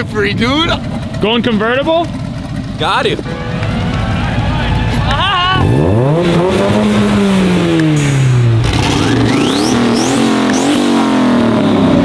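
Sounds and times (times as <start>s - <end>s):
car engine revving: 2.4s - 12.0s.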